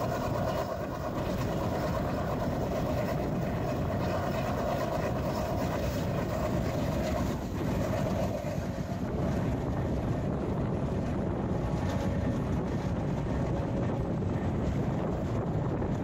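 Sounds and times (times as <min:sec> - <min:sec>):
train rumbling: 0:00.0 - 0:16.0
wind buffeting microphone: 0:00.0 - 0:16.0.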